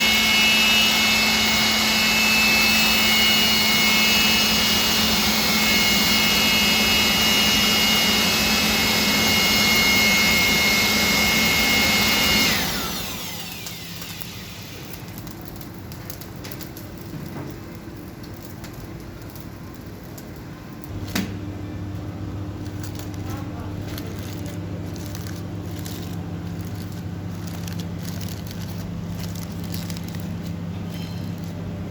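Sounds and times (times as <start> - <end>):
electric blower motor whining: 0.0 - 15.1, 20.9 - 31.9.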